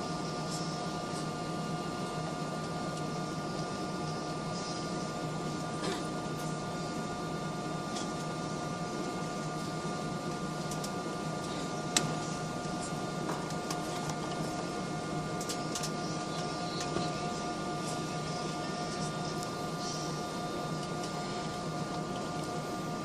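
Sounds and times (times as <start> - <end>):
airliner engines droning in cabin: 0.0 - 23.0.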